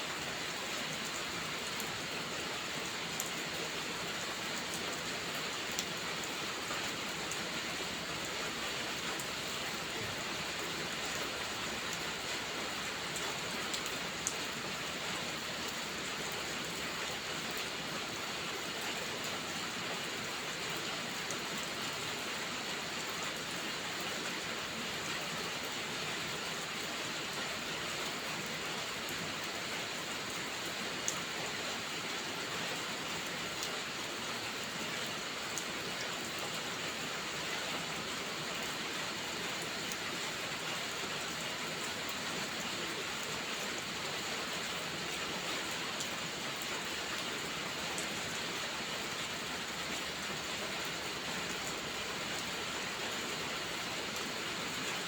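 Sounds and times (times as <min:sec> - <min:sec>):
rainfall hiss: 0:00.0 - 0:55.0.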